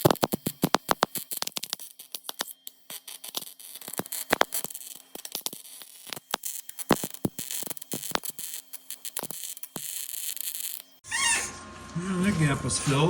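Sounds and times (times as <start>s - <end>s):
welding arc crackling: 0.0s - 11.0s
welding hiss: 0.0s - 11.0s.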